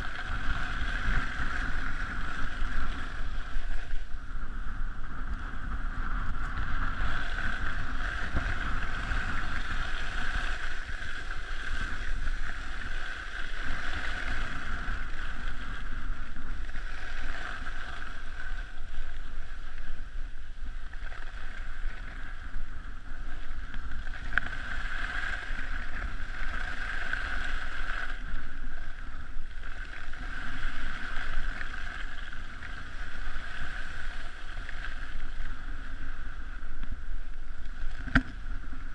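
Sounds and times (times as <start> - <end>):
skis sliding over snow: 0.0 - 38.9.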